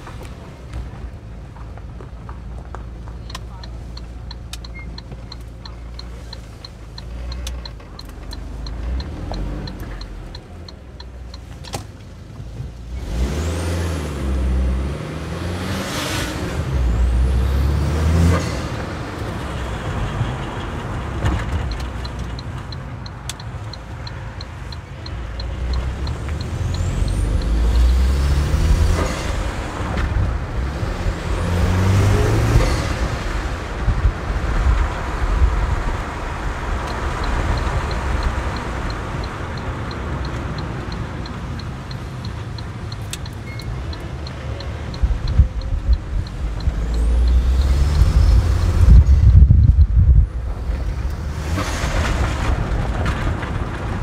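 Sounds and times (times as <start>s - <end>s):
turn signal ticking: 0.0s - 54.0s
car engine accelerating: 2.6s - 54.0s.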